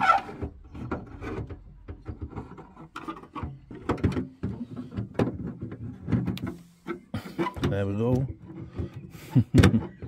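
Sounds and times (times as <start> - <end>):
plastic housing clicking and scraping: 0.0 - 10.0.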